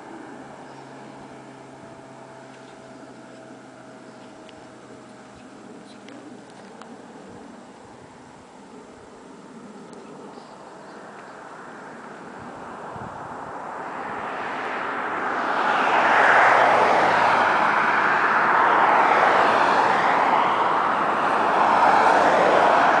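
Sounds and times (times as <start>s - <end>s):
highway traffic passing: 0.0s - 23.0s.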